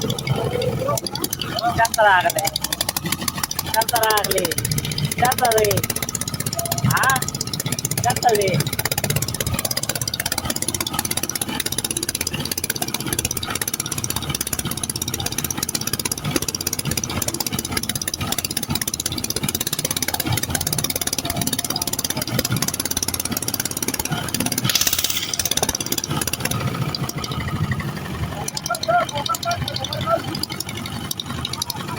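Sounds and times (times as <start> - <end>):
motorboat engine running: 0.0 - 31.9.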